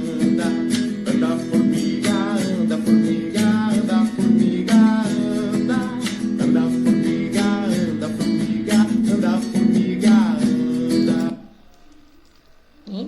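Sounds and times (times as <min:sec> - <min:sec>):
acoustic guitar strumming: 0:00.0 - 0:12.8.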